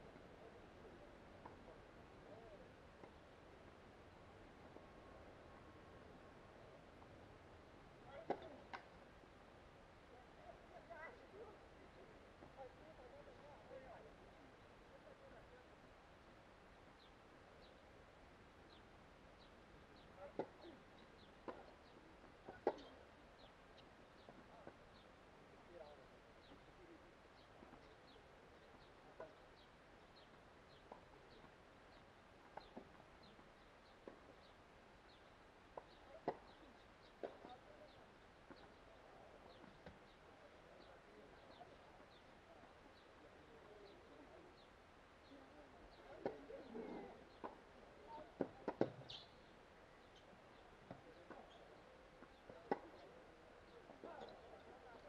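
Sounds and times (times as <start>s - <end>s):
birds chirping faintly: 0.0s - 55.0s.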